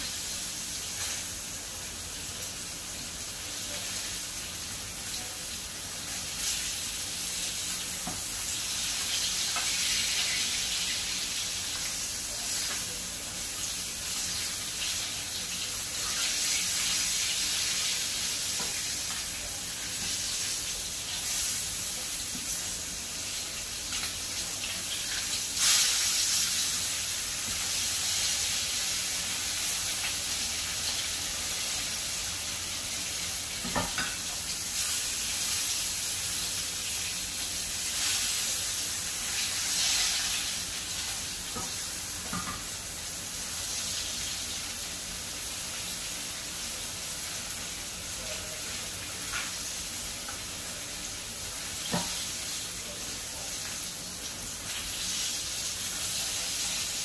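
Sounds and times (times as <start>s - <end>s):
fish sizzling in a frying pan: 0.0s - 57.0s.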